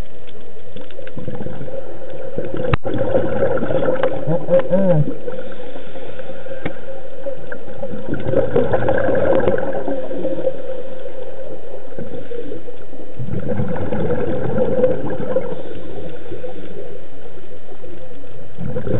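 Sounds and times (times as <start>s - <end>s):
water gurgling and bubbling: 1.0s - 18.9s.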